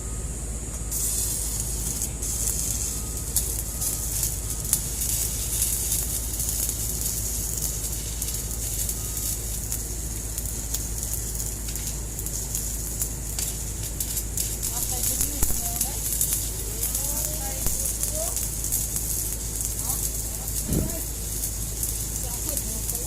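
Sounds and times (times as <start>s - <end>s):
low hum: 0.0s - 10.4s, 13.0s - 22.2s
arc welding hiss: 0.0s - 23.0s
welding crackling pops: 0.0s - 23.0s.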